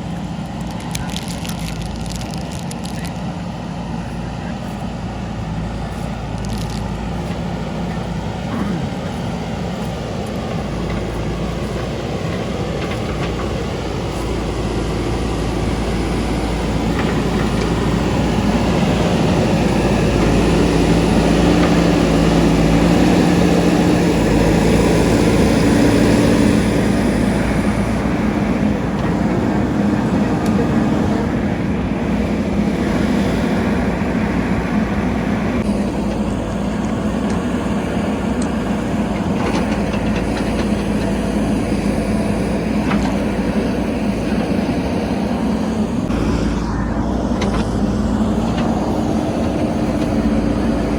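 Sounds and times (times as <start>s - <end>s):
diesel engine revving: 0.0s - 50.9s.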